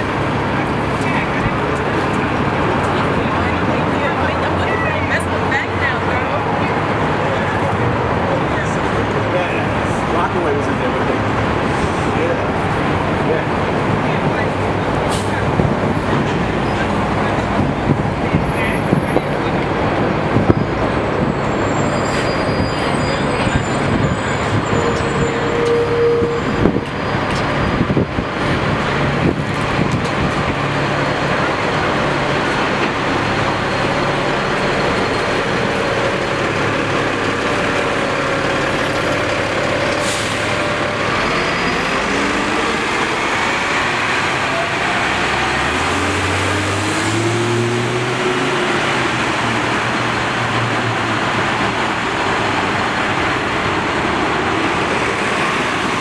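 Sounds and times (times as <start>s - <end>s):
bus engine pulling away: 0.0s - 56.0s
diesel buses running: 0.0s - 56.0s.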